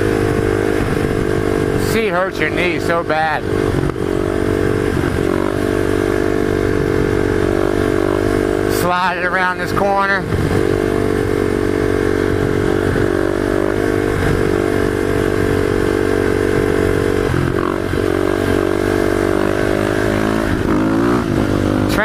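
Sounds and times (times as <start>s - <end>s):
wind noise on microphone: 0.0s - 2.3s, 3.3s - 8.7s, 9.8s - 21.9s
motorcycle engine running: 0.0s - 22.0s.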